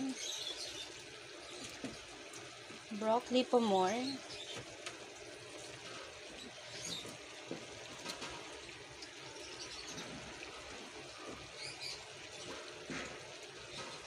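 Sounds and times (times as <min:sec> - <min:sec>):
pot of water bubbling: 0:00.0 - 0:14.0.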